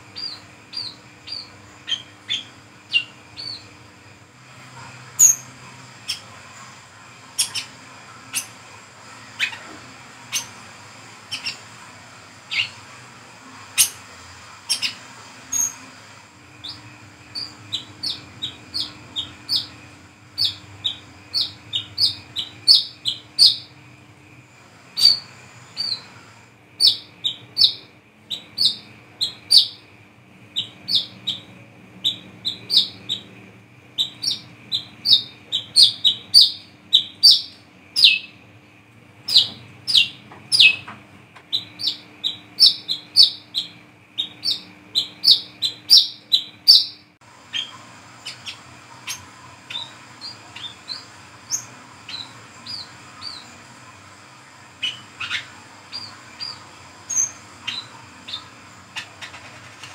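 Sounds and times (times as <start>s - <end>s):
bird chirping: 0.1s - 3.7s, 5.2s - 6.7s, 7.3s - 8.7s, 9.3s - 9.7s, 10.3s - 10.6s, 11.2s - 11.7s, 12.5s - 12.8s, 13.8s - 15.9s, 16.5s - 23.8s, 24.9s - 26.2s, 26.8s - 29.9s, 30.5s - 38.4s, 39.3s - 40.9s, 41.5s - 53.9s, 54.7s - 59.9s.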